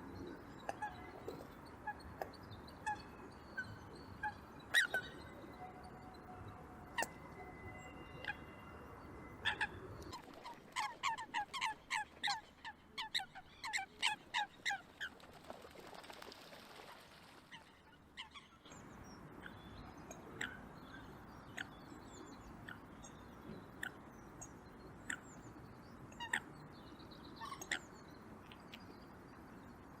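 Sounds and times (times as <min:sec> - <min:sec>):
faint ticks and chirps: 0:00.0 - 0:30.0.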